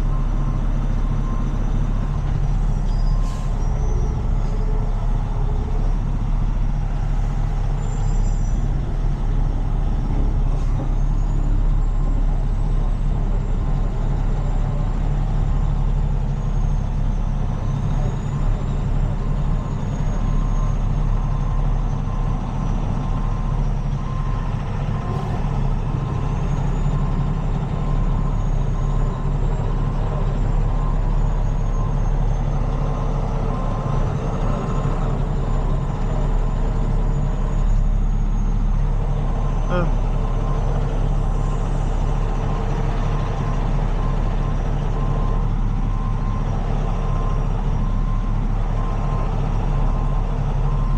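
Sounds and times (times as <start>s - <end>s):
diesel truck engine rumbling: 0.0s - 50.9s.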